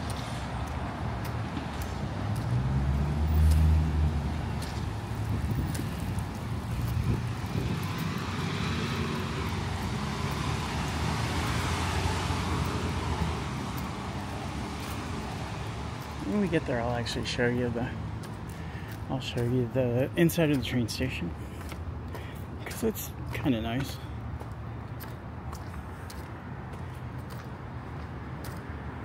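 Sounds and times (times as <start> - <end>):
cars passing by: 0.0 - 29.0
vehicle engine rumble: 0.0 - 29.0.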